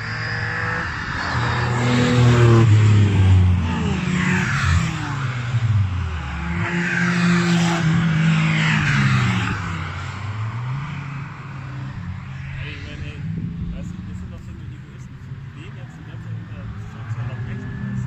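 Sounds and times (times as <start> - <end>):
car engines accelerating: 0.0 - 18.0.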